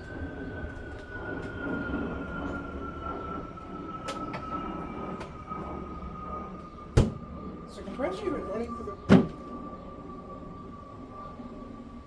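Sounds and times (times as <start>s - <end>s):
electric train rumble: 0.0s - 12.0s
train motor whine: 0.0s - 12.0s.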